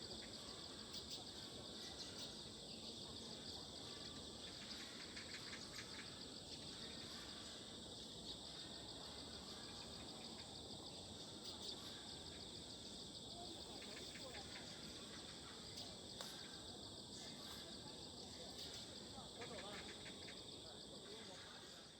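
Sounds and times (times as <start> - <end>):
insect chorus trilling: 0.0 - 21.9.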